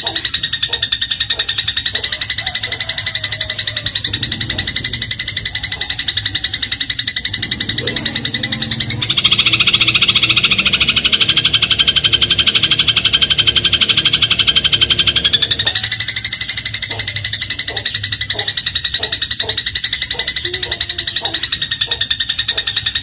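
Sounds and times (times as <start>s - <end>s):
sparrow chattering: 0.0s - 23.0s.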